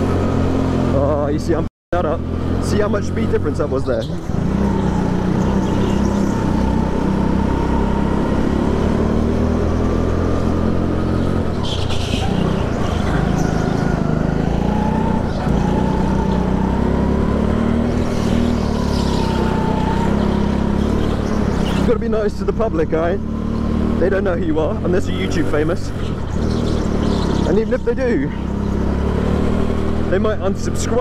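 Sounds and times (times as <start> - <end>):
go-kart motor drone with whine: 2.0 - 31.0.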